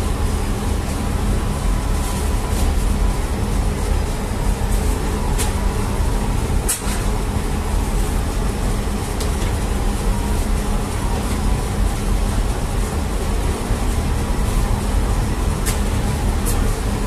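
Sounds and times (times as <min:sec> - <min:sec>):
bakery machinery drone: 0:00.0 - 0:17.0.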